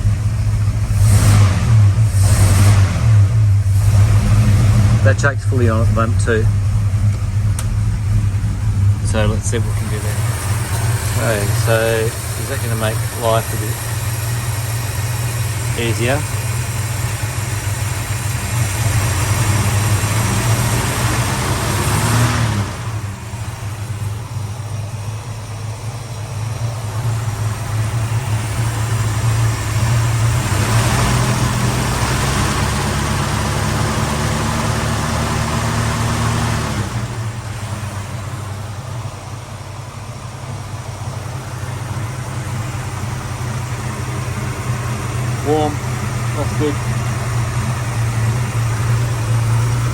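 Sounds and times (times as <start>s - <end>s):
car engine revving and idling: 0.0s - 49.9s.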